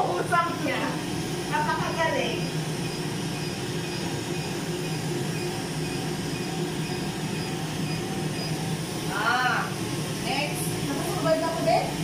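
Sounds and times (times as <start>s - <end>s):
machine hum with air rushing: 0.0s - 12.0s.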